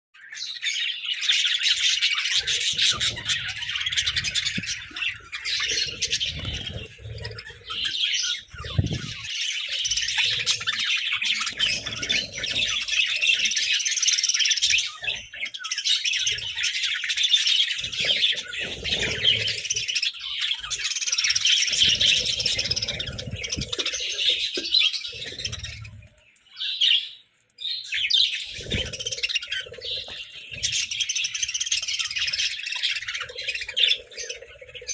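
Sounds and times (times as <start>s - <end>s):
budgerigars chattering and chirping: 0.2s - 34.9s.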